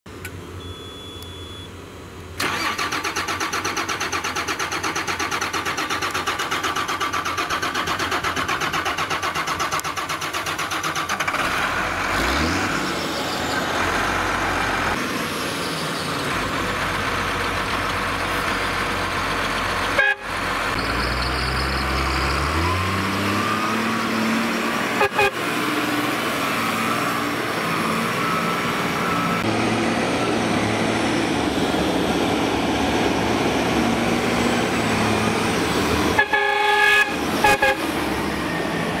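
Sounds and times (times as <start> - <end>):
diesel tractor engine starting and running: 0.1 - 39.0
tractor engine revving: 2.4 - 39.0.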